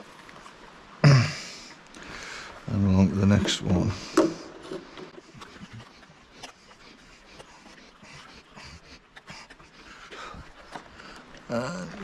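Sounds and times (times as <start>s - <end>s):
faint clicks and rustling: 1.7s - 12.0s.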